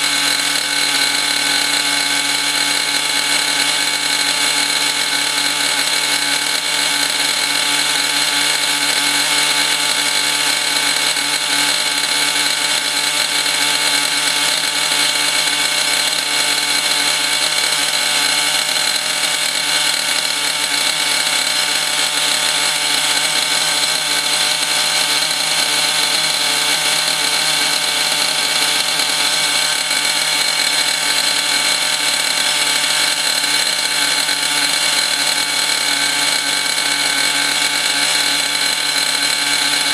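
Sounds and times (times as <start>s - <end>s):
model engine buzzing: 0.0s - 39.9s.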